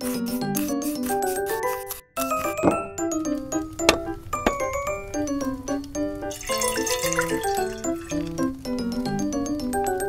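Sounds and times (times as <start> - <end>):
light background melody: 0.0 - 10.0.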